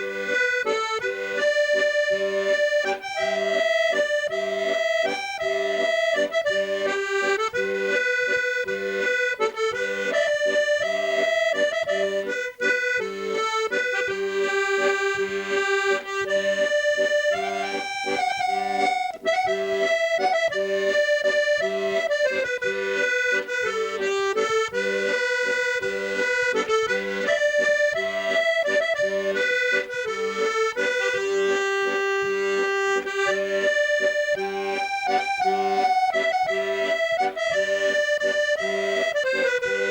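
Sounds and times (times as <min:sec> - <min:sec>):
accordion playing folk tune: 0:00.0 - 0:39.9.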